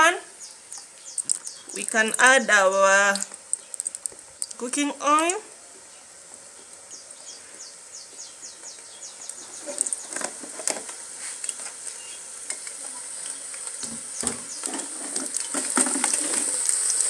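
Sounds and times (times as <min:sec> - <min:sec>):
oil crackling and sizzling in a wok: 0:00.3 - 0:17.0.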